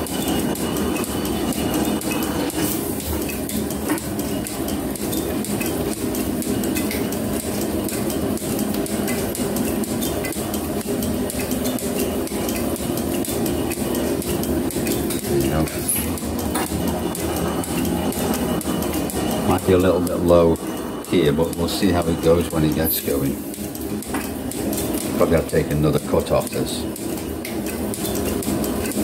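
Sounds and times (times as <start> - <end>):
metal planer running: 0.0 - 29.0.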